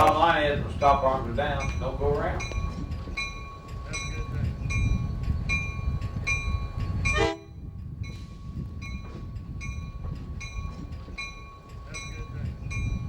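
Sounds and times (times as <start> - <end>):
railroad crossing bell ringing: 0.0 - 13.0
train rumbling past: 0.0 - 13.0.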